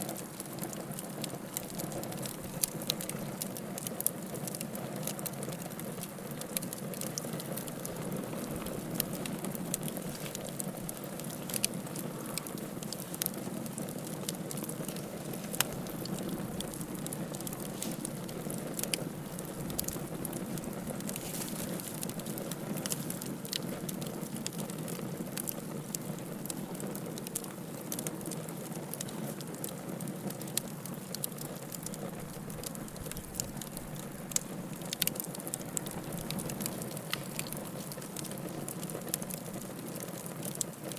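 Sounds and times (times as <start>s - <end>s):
burning wood crackling and popping: 0.0s - 40.9s
low rushing of flames: 0.0s - 40.9s.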